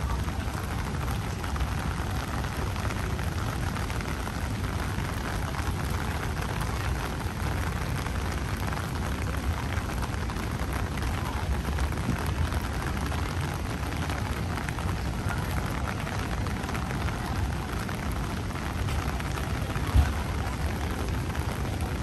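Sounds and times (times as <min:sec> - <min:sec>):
rain on pavement: 0:00.0 - 0:22.0.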